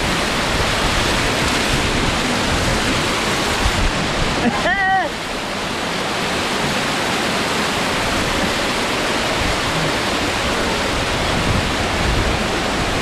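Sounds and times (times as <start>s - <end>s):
water rushing over boulders: 0.0s - 13.0s.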